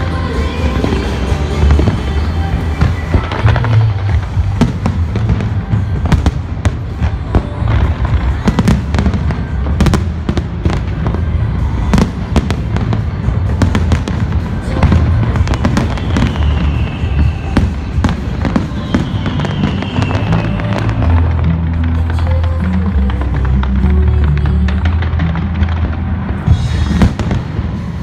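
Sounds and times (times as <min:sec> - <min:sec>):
fireworks bangs and crackles: 0:00.0 - 0:28.0
music with heavy bass: 0:00.0 - 0:28.0.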